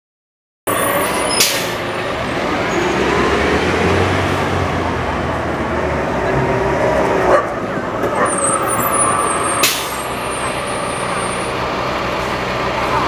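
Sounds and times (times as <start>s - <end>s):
bus driving past: 0.7s - 13.0s.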